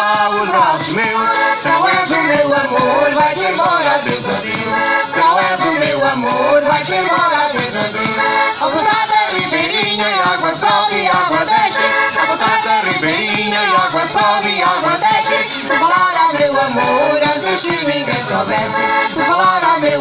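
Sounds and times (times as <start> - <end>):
accordion melody: 0.0 - 20.0
shaken percussion: 0.0 - 20.0.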